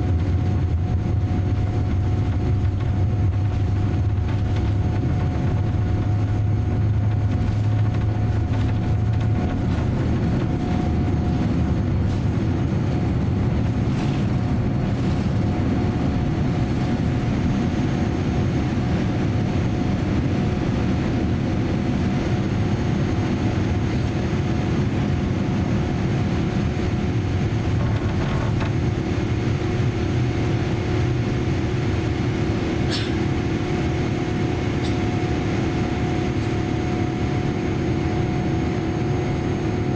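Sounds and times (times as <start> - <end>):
low rumble: 0.0 - 32.8
jet engine roar: 0.0 - 39.9
steady hums: 0.0 - 39.9.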